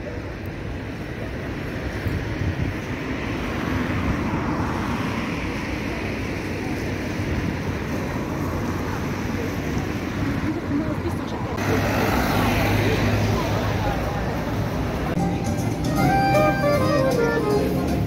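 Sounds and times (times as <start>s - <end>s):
engine and traffic rumble: 0.0s - 18.0s.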